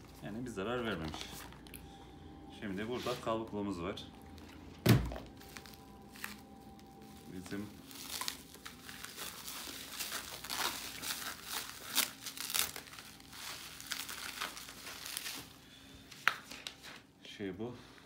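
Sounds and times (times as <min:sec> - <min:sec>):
plastic packaging crinkling: 0:00.0 - 0:01.8, 0:04.3 - 0:17.0.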